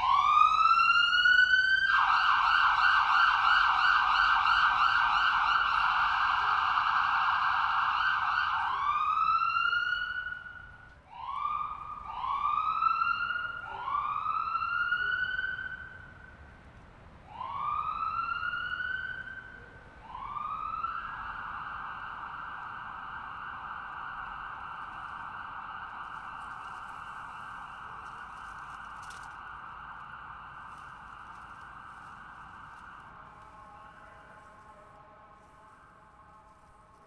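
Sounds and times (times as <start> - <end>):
distant ambulance siren: 0.0 - 37.0.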